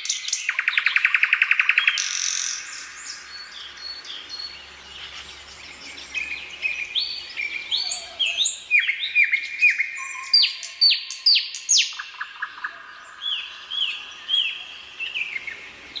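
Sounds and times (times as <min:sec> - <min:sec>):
nightingale singing: 0:00.0 - 0:16.0.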